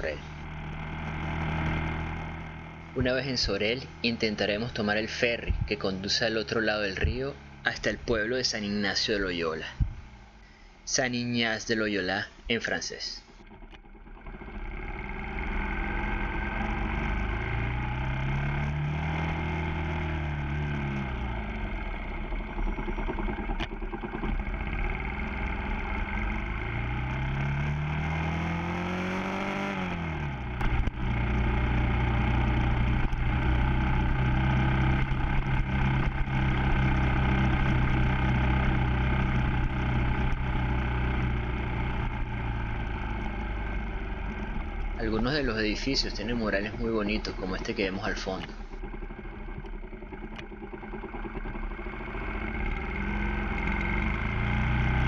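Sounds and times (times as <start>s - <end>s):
motorcycle engine revving: 0.0s - 10.4s, 13.3s - 55.0s.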